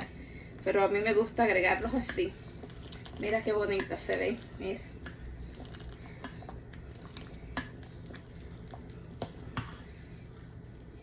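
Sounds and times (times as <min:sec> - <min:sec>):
low steady hum: 0:00.0 - 0:11.0
metal spoon stirring in saucepan: 0:01.6 - 0:11.0.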